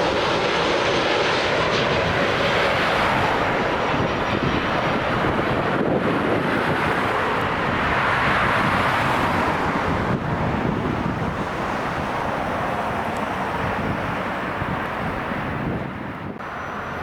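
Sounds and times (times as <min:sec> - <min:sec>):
jet airliner engine rushing: 0:00.0 - 0:17.0
wind on microphone: 0:00.2 - 0:16.6.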